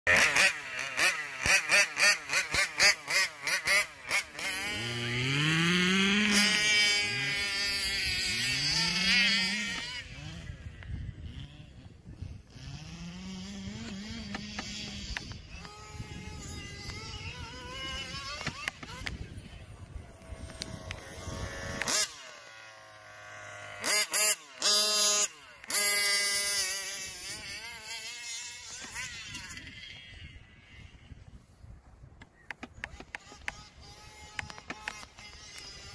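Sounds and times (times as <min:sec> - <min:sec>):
small two-stroke engine revving: 0:00.1 - 0:31.6, 0:32.5 - 0:35.9.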